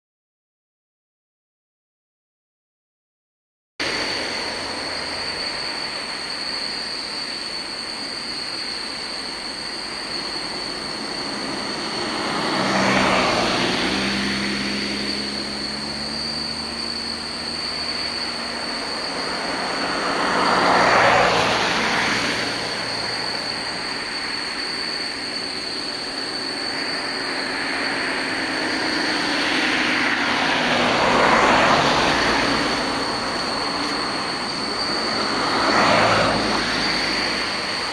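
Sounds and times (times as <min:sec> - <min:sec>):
distant jet engines rushing: 0:03.8 - 0:37.9
high-pitched engine whine: 0:03.8 - 0:37.9
low engine drone sliding down: 0:03.8 - 0:37.9.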